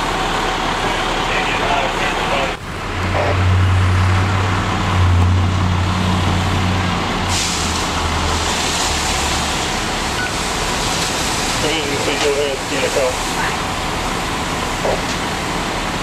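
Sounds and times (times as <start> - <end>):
broad rushing noise: 0.0 - 16.0
diesel engine humming: 0.0 - 16.0.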